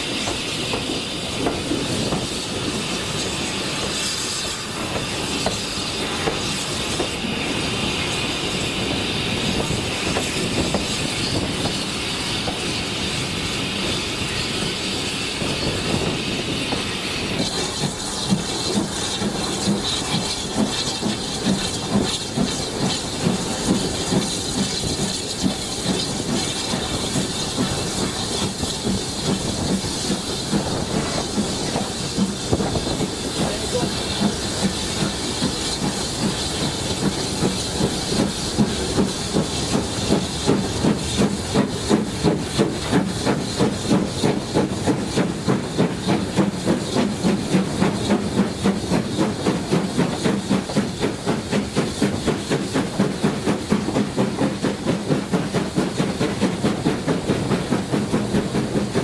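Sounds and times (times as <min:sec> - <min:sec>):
steam hissing: 0:00.0 - 0:59.0
steam locomotive chuffing: 0:00.0 - 0:59.0.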